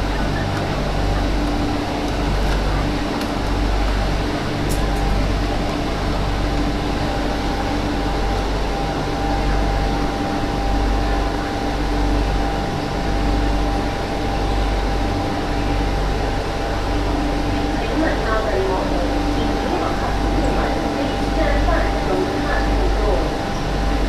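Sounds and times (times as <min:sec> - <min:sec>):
low train rumble: 0:00.0 - 0:24.0
train mechanical hum and hiss: 0:00.0 - 0:24.0.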